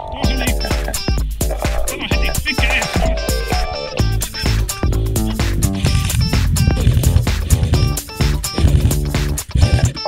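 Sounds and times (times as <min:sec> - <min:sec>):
background music with steady beat: 0:00.2 - 0:10.0.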